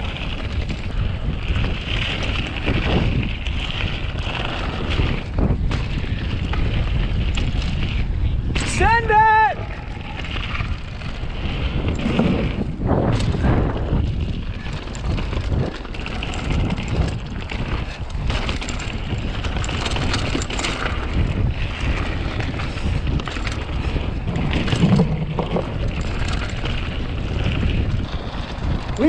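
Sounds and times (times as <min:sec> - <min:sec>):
bike knocks and rattles: 0:00.0 - 0:29.0
tyres rumbling on dirt: 0:00.0 - 0:29.0
wind buffeting microphone: 0:00.0 - 0:29.0.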